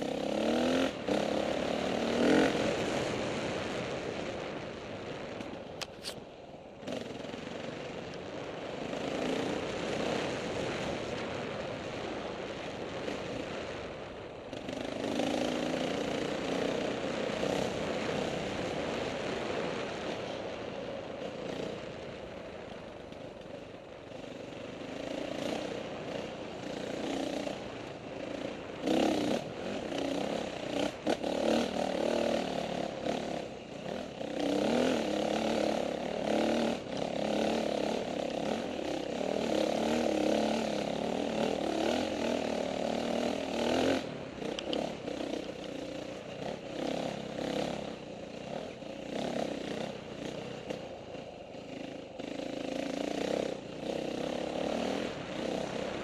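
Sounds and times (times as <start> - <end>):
motorcycle engine revving: 0.0 - 4.4, 8.5 - 56.0.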